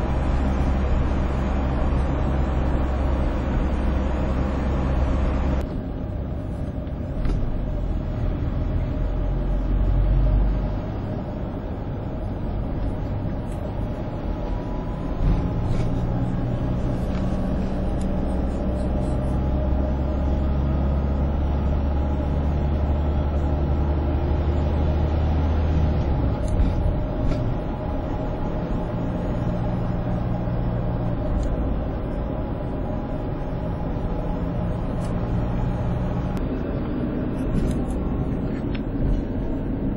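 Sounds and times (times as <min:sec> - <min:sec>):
heavy highway traffic rumble: 0:00.0 - 0:39.9.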